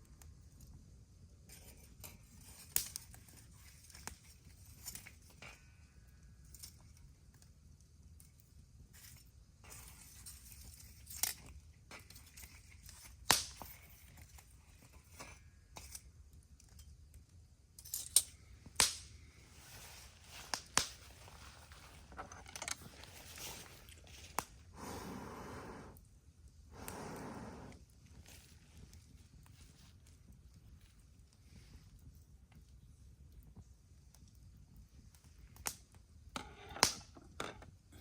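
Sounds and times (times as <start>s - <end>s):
campfire crackling: 0.0s - 37.1s
burning wood popping: 1.8s - 17.4s, 18.1s - 25.1s, 26.0s - 38.0s.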